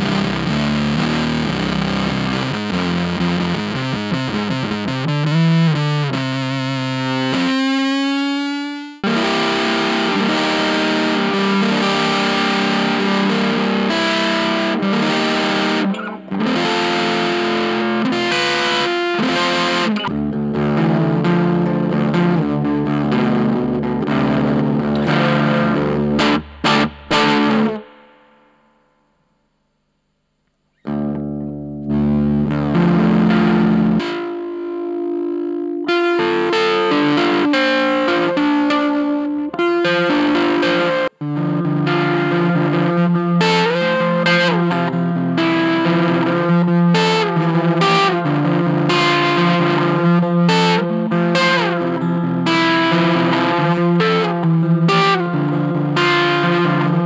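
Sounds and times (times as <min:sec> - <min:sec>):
distorted electric guitar riffs: 0:00.0 - 0:29.2, 0:30.8 - 0:57.0.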